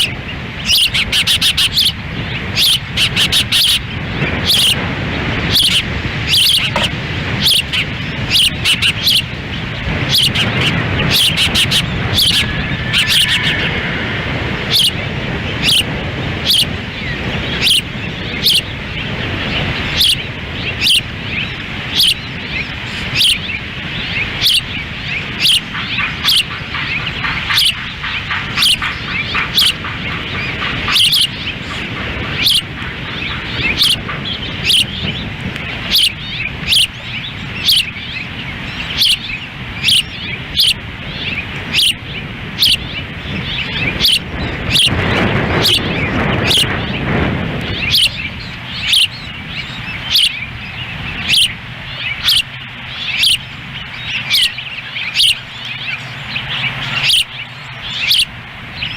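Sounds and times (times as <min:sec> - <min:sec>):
osprey chirping: 0:00.0 - 0:47.1, 0:47.7 - 0:58.9
wind rumbling on microphone: 0:00.0 - 0:58.9.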